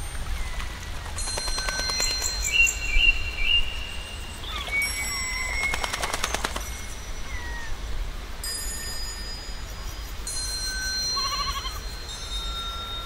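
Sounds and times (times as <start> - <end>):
songbirds chirping and whistling: 0.0 - 13.0
rapid ticking bird trill: 0.2 - 8.0, 8.8 - 13.0.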